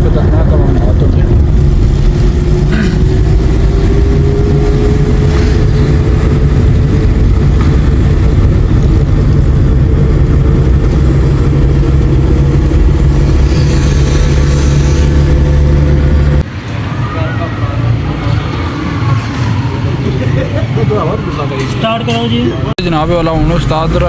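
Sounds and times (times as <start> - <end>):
road noise: 0.0 - 24.0
vehicle engine: 0.0 - 24.0.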